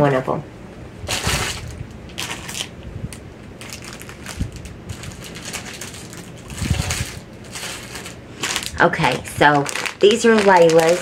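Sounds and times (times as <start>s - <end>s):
plastic packaging crinkling: 1.1s - 11.0s.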